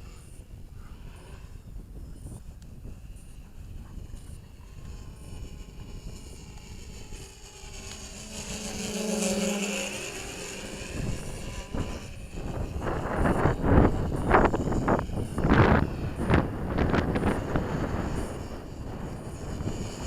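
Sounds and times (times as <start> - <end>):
drone motors whining: 0.0 - 20.0
wind buffeting microphone: 0.0 - 20.0.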